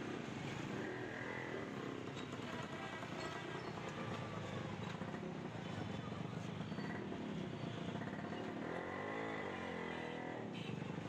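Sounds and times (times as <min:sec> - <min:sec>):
busy street traffic: 0:00.0 - 0:11.0.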